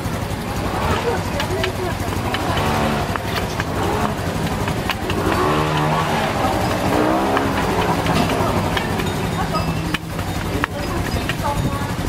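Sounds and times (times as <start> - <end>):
background voices: 0.0 - 12.0
steady low hum: 0.0 - 12.0.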